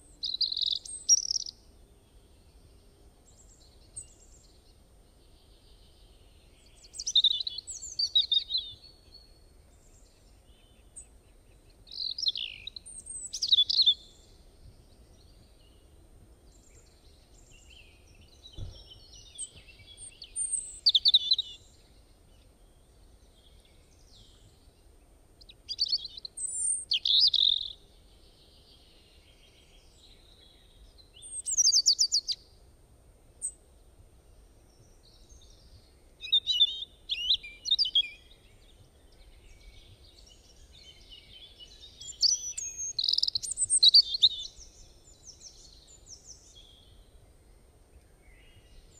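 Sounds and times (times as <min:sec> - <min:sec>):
small birds chirping and trilling: 0:00.0 - 0:32.5, 0:34.2 - 0:48.9.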